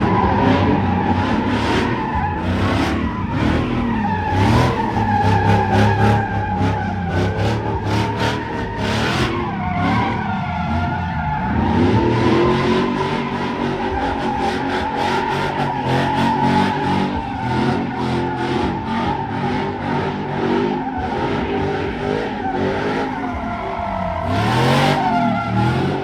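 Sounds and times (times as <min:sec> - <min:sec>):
tires squealing: 0:00.0 - 0:26.0
truck engine revving: 0:00.0 - 0:26.0.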